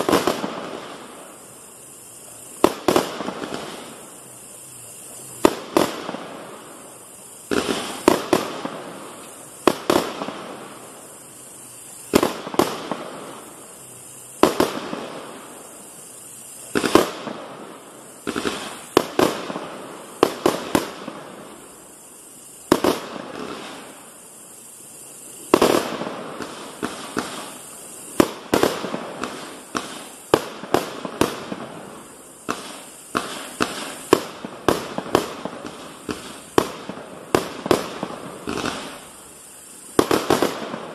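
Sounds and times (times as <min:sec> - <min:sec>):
fireworks bangs: 0:00.0 - 0:24.4, 0:25.0 - 0:40.9.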